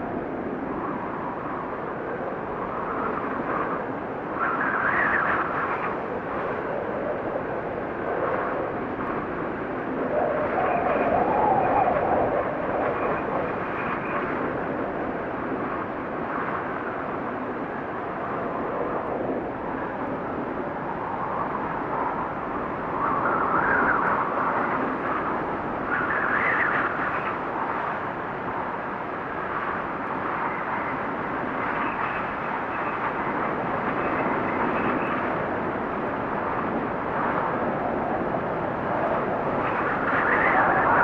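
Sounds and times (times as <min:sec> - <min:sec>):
gusting wind: 0:00.0 - 0:41.0.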